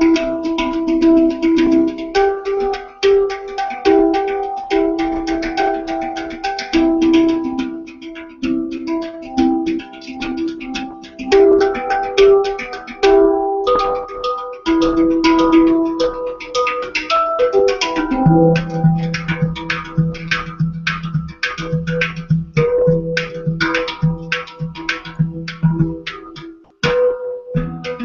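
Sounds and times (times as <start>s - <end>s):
handpan melody: 0.0s - 28.0s.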